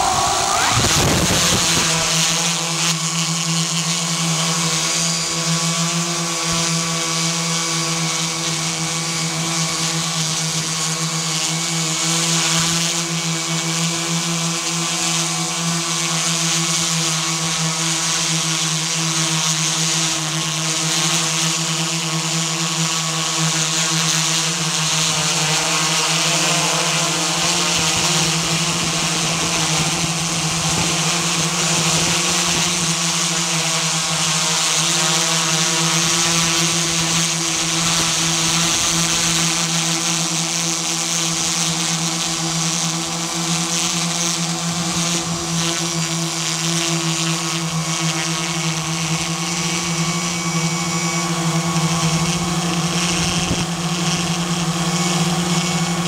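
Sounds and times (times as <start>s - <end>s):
drone propellers humming: 0.0s - 56.0s.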